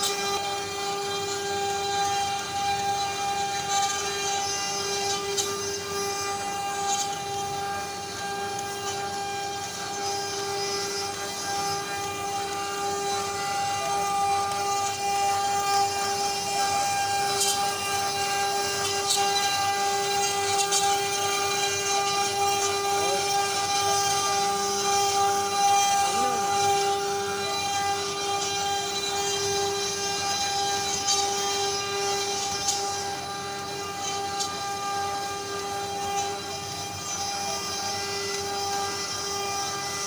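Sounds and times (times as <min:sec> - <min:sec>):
cutting hiss: 0:00.0 - 0:40.0
router spindles whining: 0:00.0 - 0:40.0.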